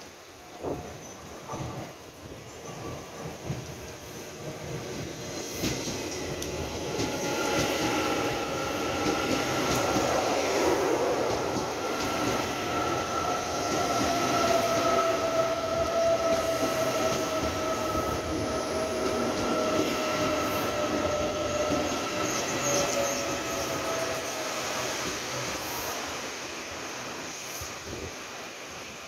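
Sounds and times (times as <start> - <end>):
train rolling rumble: 0.0 - 29.0.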